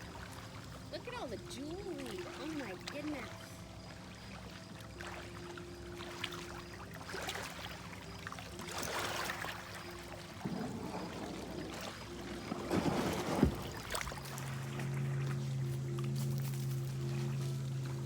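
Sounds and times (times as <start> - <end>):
kayak paddle splashing water: 0.0 - 18.0.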